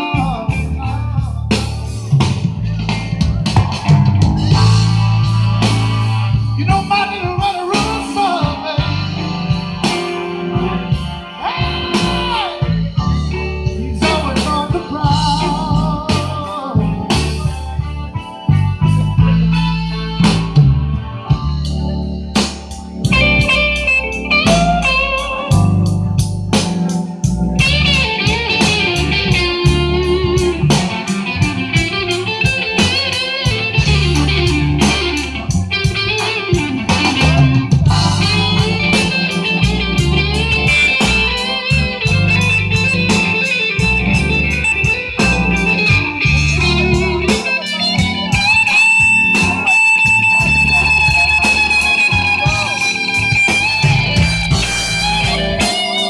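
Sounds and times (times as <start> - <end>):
bass line: 0.0 - 56.0
drums: 0.0 - 56.0
electric guitar solo: 2.8 - 56.0.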